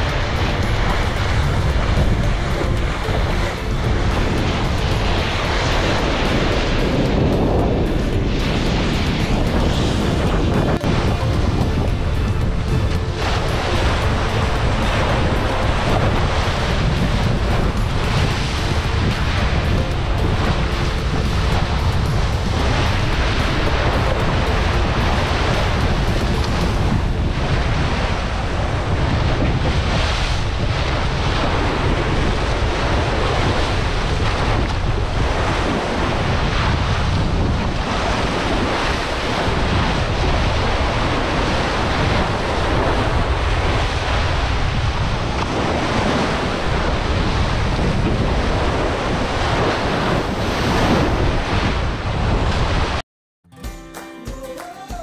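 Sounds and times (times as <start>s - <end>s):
water rushing along hull: 0.0s - 53.0s
wind buffeting microphone: 0.0s - 53.0s.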